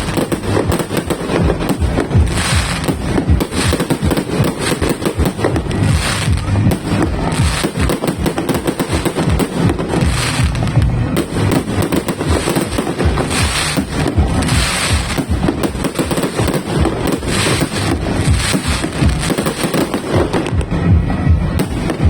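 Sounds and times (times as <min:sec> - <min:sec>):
fireworks crackling bursts: 0:00.0 - 0:22.0
fireworks launches and bangs: 0:00.0 - 0:22.0.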